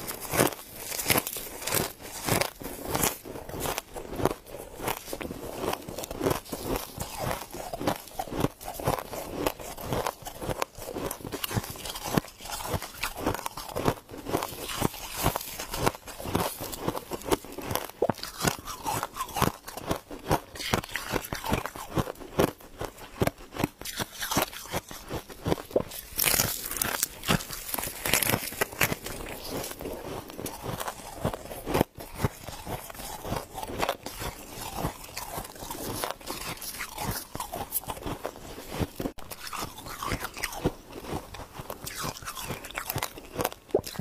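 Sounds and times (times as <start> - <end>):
frost crunching: 0.0 - 44.0.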